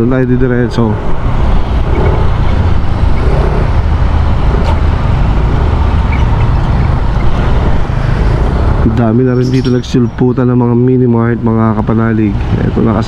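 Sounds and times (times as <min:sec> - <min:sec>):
wind and road noise rumble: 0:00.0 - 0:13.0.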